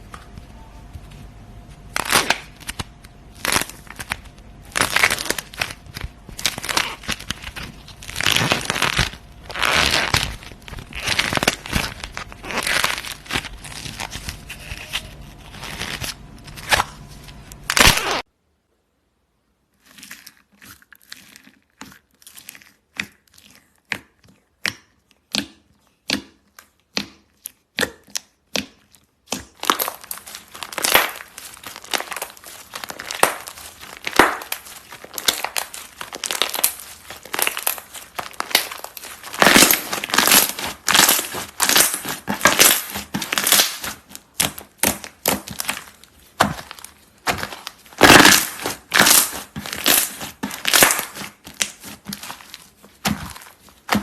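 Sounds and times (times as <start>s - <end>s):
crunchy slime crackling: 1.7s - 18.3s, 19.7s - 54.0s.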